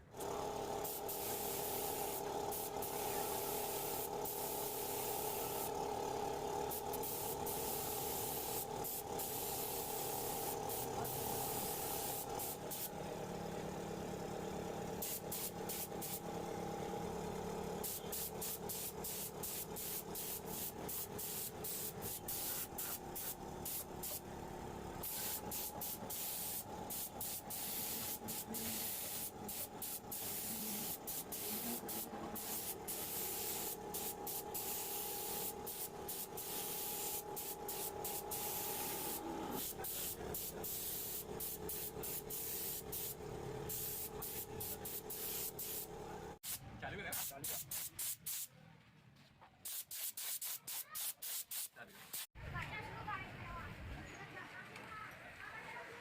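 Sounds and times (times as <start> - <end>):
air compressor humming: 0.0 - 48.1
paint spray gun hissing: 0.1 - 48.5, 49.6 - 52.3.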